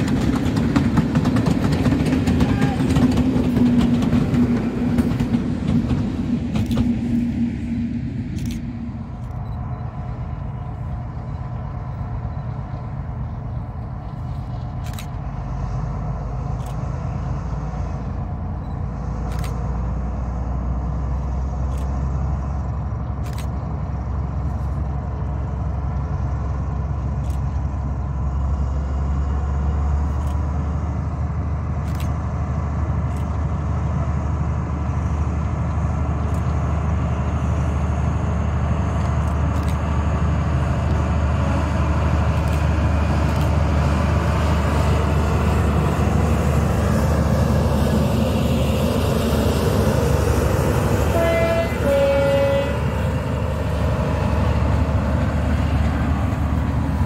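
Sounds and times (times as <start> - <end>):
diesel train passing: 0.0 - 57.0
distant diesel engine rumble: 0.0 - 57.0.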